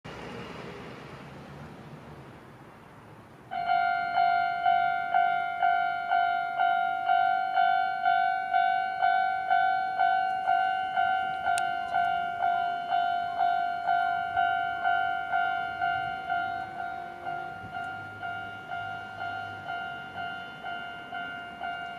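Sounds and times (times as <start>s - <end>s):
level crossing warning bell: 3.5s - 21.9s.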